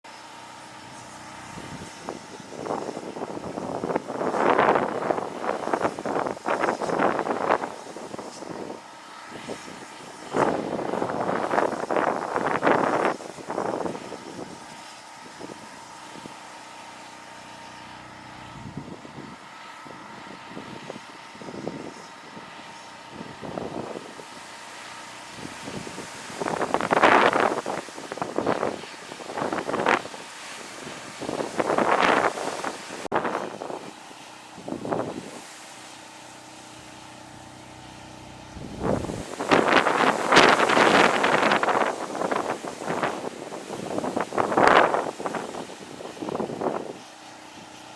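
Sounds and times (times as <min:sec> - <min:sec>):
engine hum: 0:00.1 - 0:47.9
wind buffeting microphone: 0:01.4 - 0:16.4, 0:18.5 - 0:24.6, 0:25.2 - 0:34.0, 0:34.6 - 0:35.5, 0:38.5 - 0:47.0.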